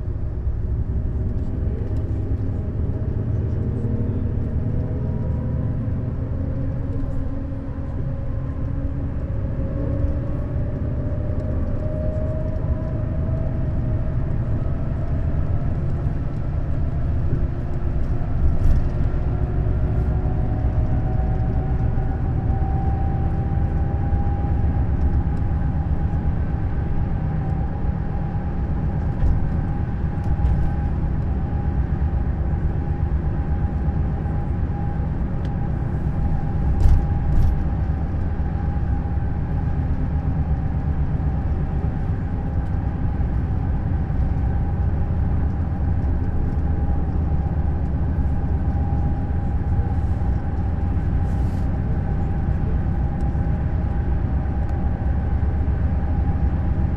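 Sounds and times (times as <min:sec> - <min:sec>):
coach engine drone: 0:00.0 - 0:56.9
road noise: 0:00.0 - 0:56.9.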